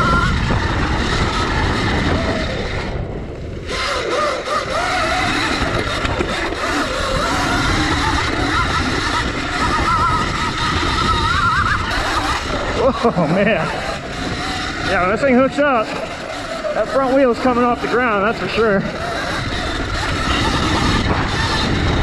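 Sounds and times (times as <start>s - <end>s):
chain drive noise: 0.0s - 22.0s
electric motor whine: 0.0s - 22.0s.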